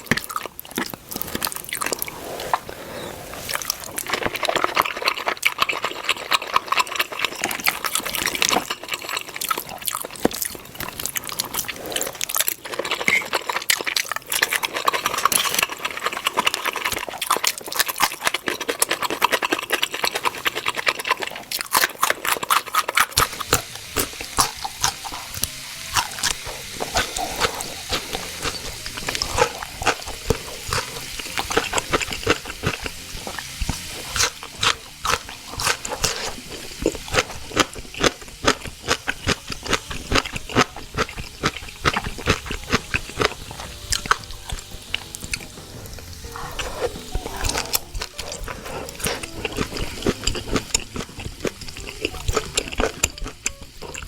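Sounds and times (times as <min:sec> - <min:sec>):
steak sizzling: 0:00.0 - 0:54.0.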